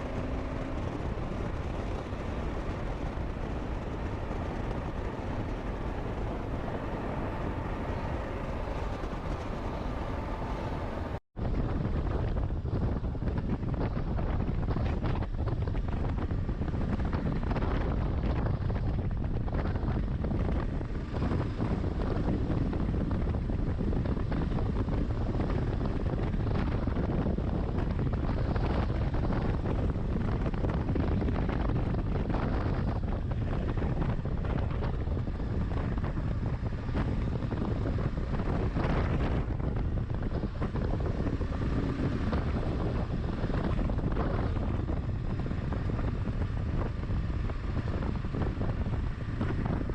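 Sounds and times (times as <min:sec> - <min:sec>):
motorcycle engine running: 0:00.0 - 0:11.2, 0:12.1 - 0:49.9
wind buffeting microphone: 0:00.0 - 0:49.9.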